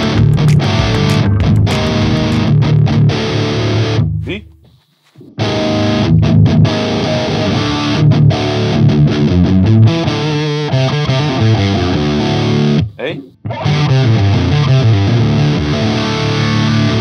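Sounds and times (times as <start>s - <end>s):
distorted electric guitar riff: 0.0s - 17.0s.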